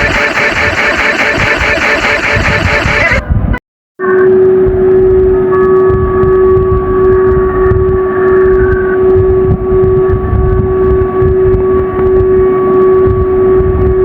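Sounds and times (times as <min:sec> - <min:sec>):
steady alarm tone: 0:00.0 - 0:03.2, 0:04.0 - 0:14.0
rough low rumble: 0:02.4 - 0:14.0.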